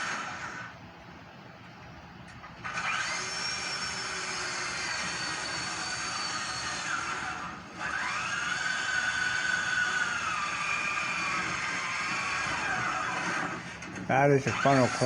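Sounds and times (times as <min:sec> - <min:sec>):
electric motor whining: 0:02.6 - 0:15.0.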